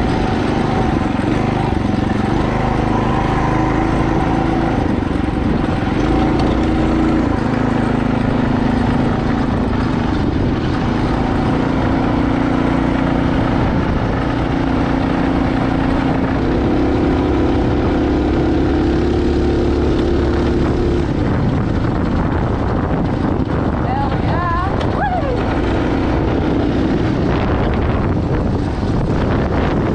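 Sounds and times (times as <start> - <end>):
small bike engine running: 0.0 - 29.9.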